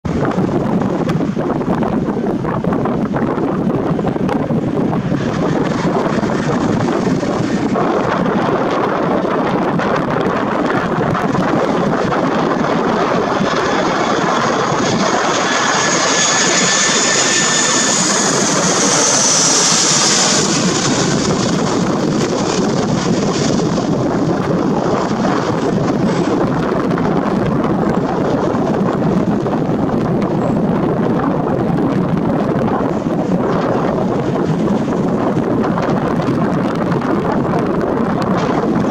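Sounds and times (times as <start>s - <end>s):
jet engine rumble: 0.0s - 38.9s
high fan whines: 0.1s - 38.9s.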